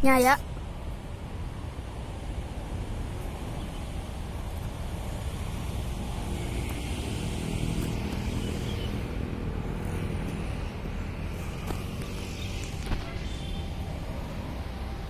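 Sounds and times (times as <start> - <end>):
rumble of street noise: 0.0 - 15.0.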